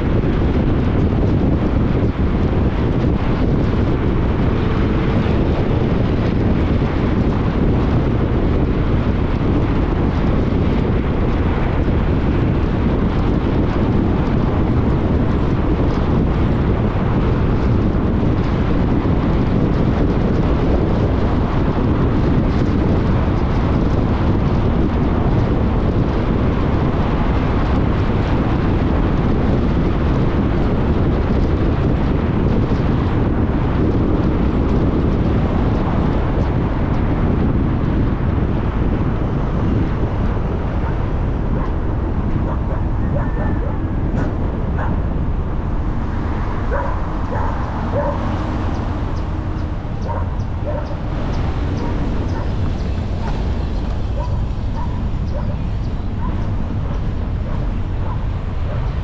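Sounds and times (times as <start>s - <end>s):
wind and road noise in a car: 0.0s - 59.0s.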